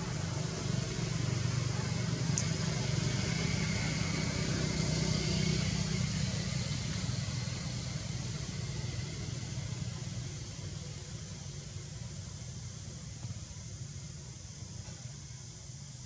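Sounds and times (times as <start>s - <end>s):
hiss: 0.0s - 16.0s.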